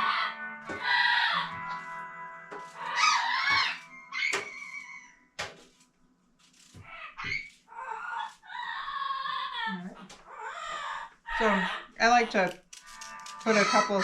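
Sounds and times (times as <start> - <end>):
parrots squawking and chattering: 0.0 - 5.2, 6.4 - 14.0.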